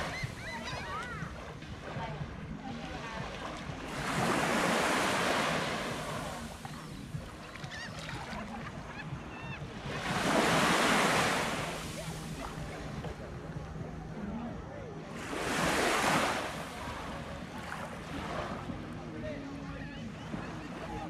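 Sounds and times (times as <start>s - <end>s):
sea waves breaking on beach: 0.0s - 13.4s, 15.1s - 21.0s.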